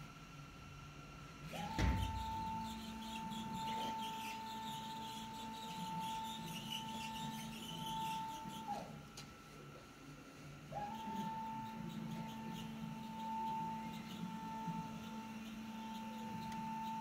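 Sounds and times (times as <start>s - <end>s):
motor high whine: 0.0s - 17.0s.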